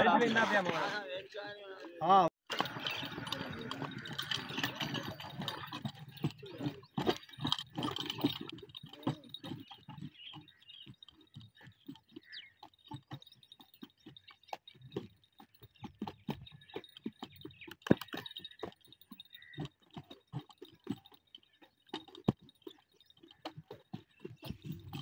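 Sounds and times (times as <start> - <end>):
hoofbeats on dirt: 2.5 - 25.0.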